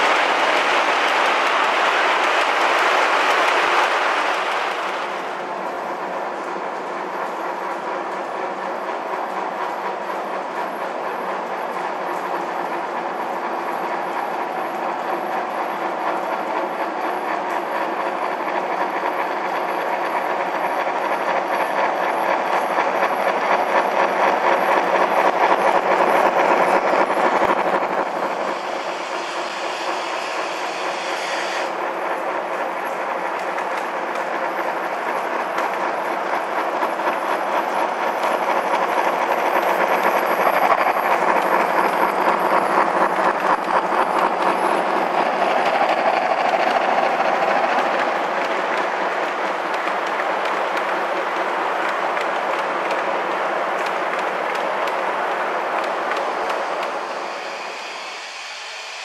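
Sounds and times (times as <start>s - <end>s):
train wheels clattering on track: 0.0s - 59.0s.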